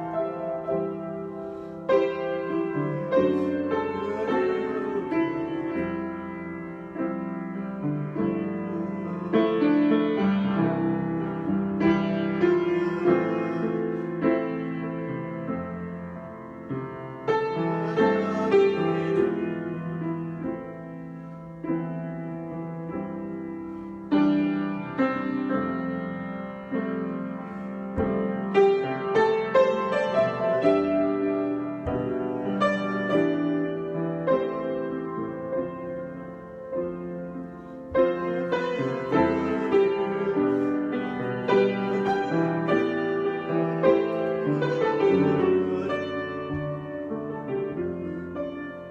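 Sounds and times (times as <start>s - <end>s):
solo piano music: 0.0s - 48.9s.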